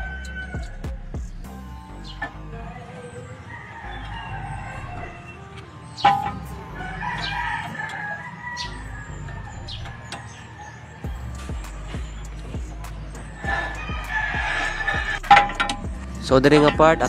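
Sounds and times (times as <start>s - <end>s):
rooster crowing: 0.0s - 0.8s, 2.6s - 15.6s.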